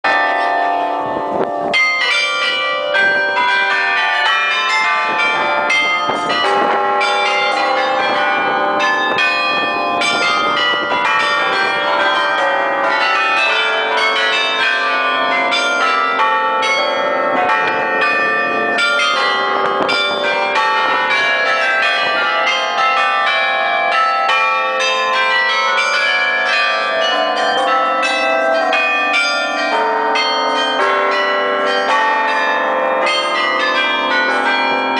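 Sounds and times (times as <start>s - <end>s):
carillon bells ringing a tune: 0.1s - 34.9s.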